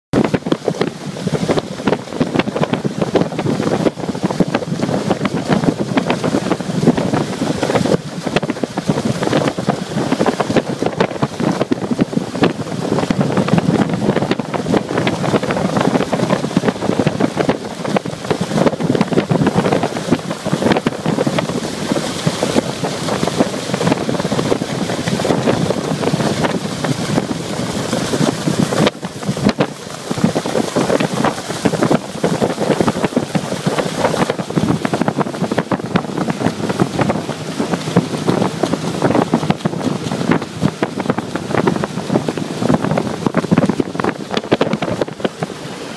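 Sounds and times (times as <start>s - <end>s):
outboard boat running at speed: 0.1s - 45.9s
water rushing and spray: 0.1s - 45.9s
wind buffeting microphone: 0.1s - 45.9s.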